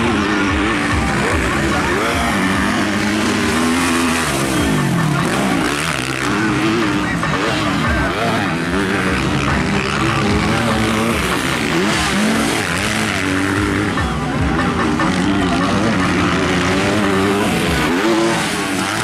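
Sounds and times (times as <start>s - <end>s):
dirt bike engines racing: 0.0s - 19.0s.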